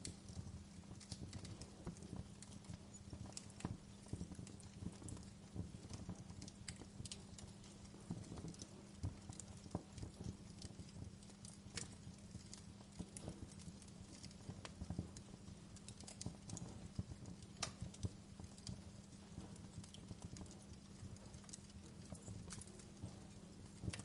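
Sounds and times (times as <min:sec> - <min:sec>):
fire low rumble: 0:00.0 - 0:24.0
wood fire crackling and popping: 0:00.0 - 0:24.0.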